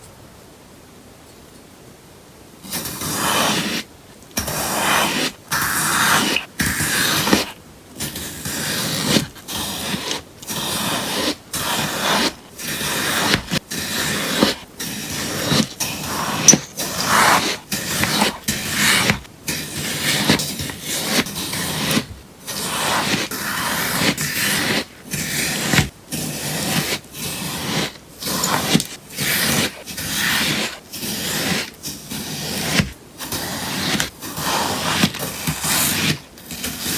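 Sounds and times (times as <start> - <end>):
sponge slime being cut: 2.7 - 36.9.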